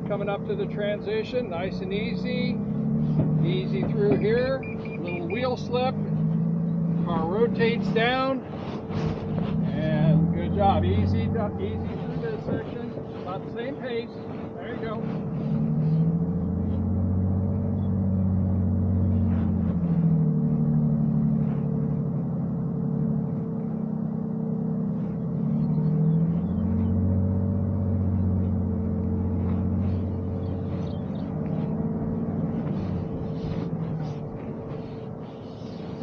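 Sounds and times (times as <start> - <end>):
faint steady whine: 0.0 - 36.0
low engine hum: 0.0 - 36.0.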